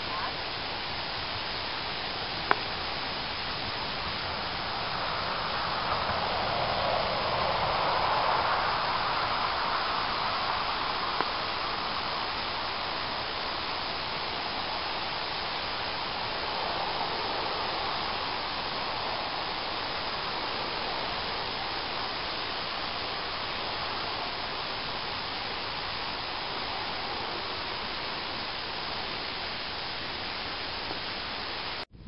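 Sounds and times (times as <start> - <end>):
background hiss: 0.0 - 32.0.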